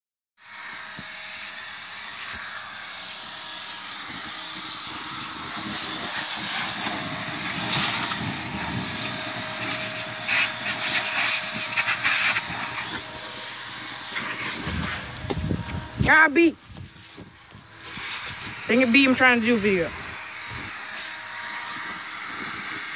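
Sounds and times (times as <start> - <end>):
leaf blower running: 0.4 - 22.9.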